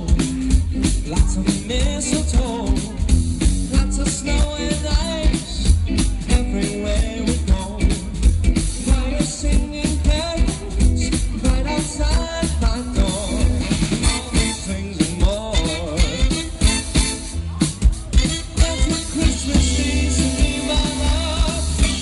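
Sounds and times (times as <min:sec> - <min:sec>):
drum kit beat: 0:00.0 - 0:22.0
swing big band playing: 0:00.0 - 0:22.0.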